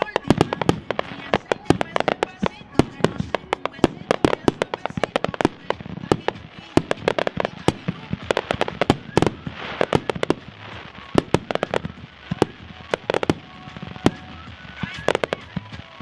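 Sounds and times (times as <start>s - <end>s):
firework crackling: 0.0s - 16.0s
firework cracks and bangs: 0.0s - 16.0s.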